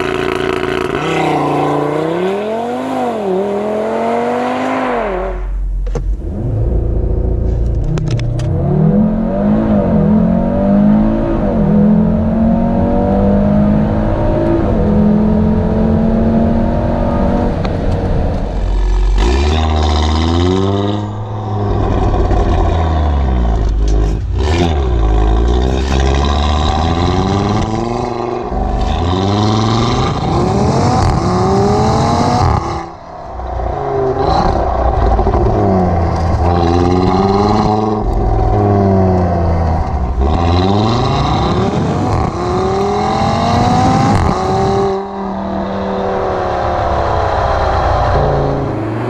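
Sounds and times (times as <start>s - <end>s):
car engine revving and shifting: 0.0s - 49.0s.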